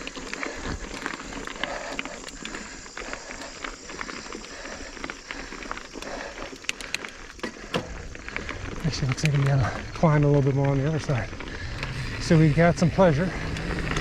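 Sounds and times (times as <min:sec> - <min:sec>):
bike clicks and ticks: 0:00.0 - 0:14.0
tyres crunching over dirt: 0:00.0 - 0:14.0.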